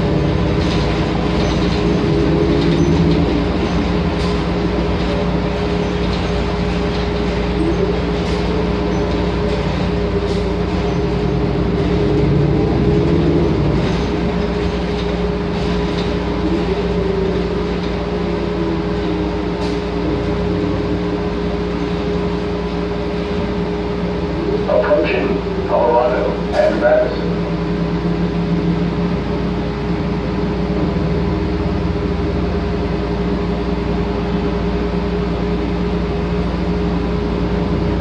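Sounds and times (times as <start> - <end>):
bus engine droning: 0.0 - 38.0.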